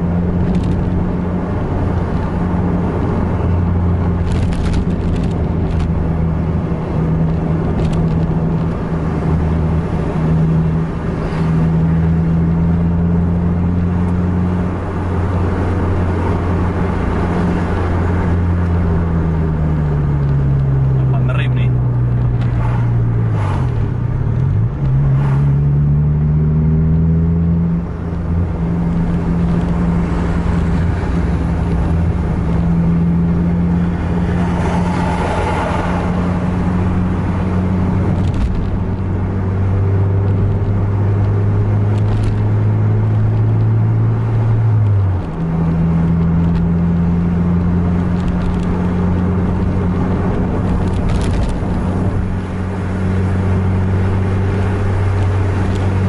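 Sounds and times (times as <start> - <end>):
car engine droning: 0.0 - 56.0
road noise rushing: 0.0 - 56.0.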